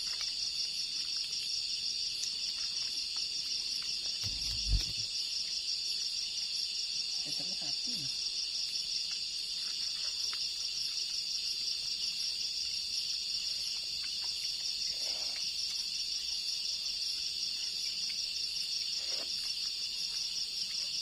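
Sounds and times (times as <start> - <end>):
insects buzzing chorus: 0.0 - 21.0.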